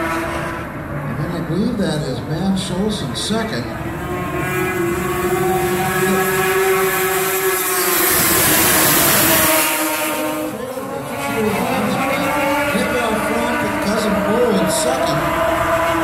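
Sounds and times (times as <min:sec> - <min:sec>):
snowmobile engines passing: 0:00.0 - 0:16.0.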